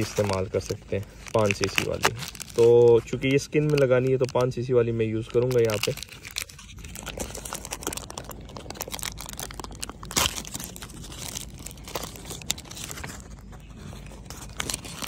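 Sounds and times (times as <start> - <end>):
cardboard box rustling and crinkling: 0.0 - 15.0
packaging crackle: 0.0 - 15.0.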